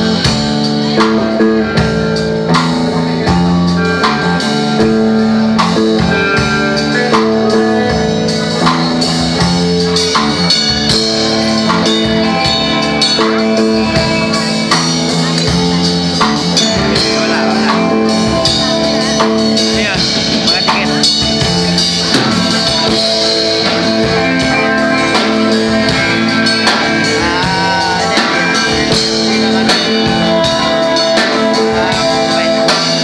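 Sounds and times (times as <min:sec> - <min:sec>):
drum kit steady beat: 0:00.0 - 0:33.0
electric guitars sustained chords: 0:00.0 - 0:33.0.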